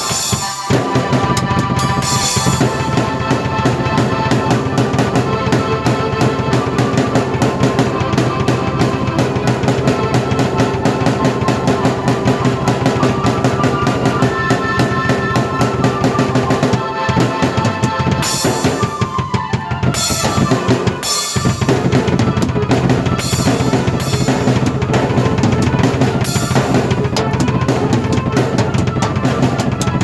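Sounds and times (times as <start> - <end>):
fast dense drumming: 0.0 - 30.0
keyboard chords: 0.0 - 30.0.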